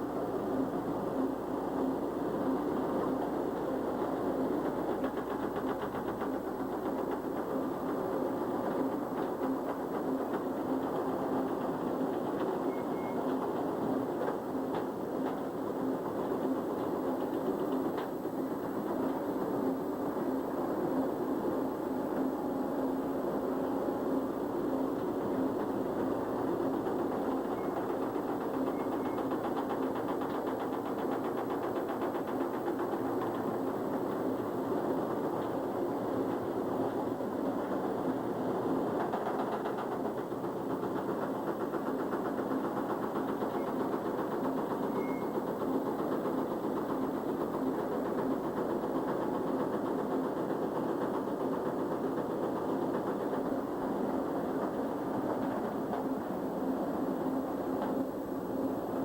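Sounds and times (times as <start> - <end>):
machine running with ticking clatter: 0.0 - 59.0.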